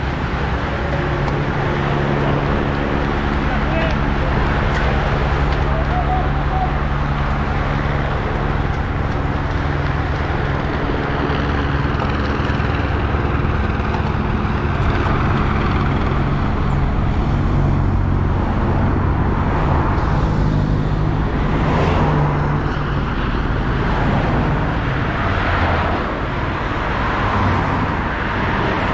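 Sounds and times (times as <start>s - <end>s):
cars and motorcycles driving by: 0.0s - 28.9s
low engine drone: 0.0s - 28.9s
tyres on asphalt: 0.0s - 28.9s.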